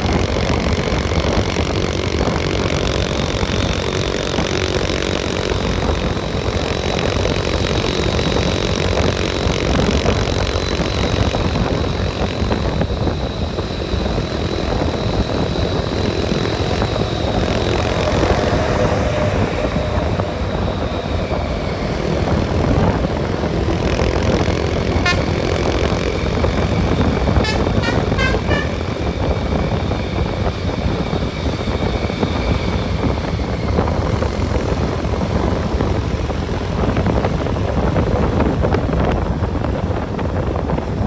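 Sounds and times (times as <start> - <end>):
thin high whine: 0.0 - 38.4
road and wind rumble: 0.0 - 41.0
vehicle engine drone: 0.0 - 41.0.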